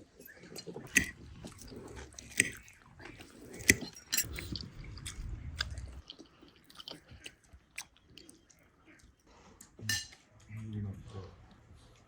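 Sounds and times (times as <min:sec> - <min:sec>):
person chewing crunchy food: 0:00.0 - 0:09.8.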